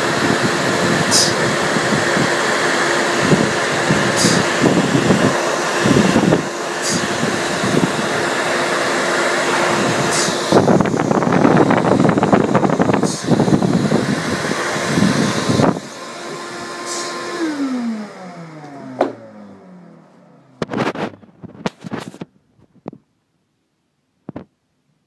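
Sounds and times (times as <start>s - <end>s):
electric blower motor: 0.0s - 22.2s.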